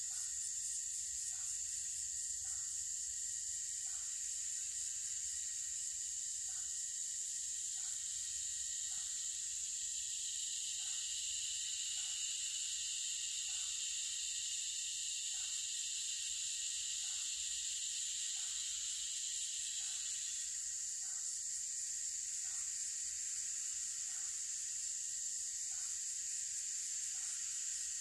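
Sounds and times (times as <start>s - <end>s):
high-pitched insect chorus: 0.0s - 28.0s.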